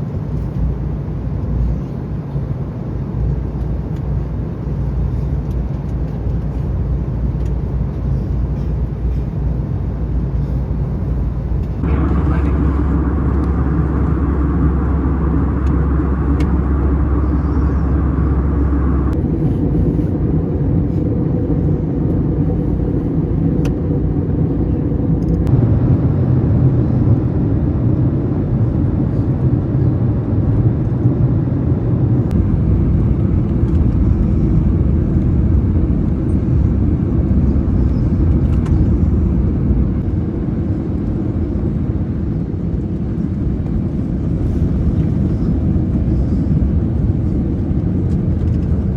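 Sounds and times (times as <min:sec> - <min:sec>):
low vehicle rumble: 0:00.0 - 0:48.9.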